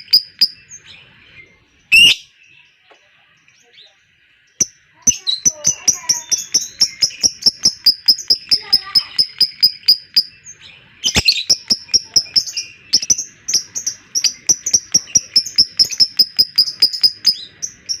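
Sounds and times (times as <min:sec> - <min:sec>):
lovebird sharp high chirps: 0:00.0 - 0:01.0, 0:01.9 - 0:02.4, 0:04.6 - 0:18.0
faint bird chatter: 0:00.0 - 0:18.0.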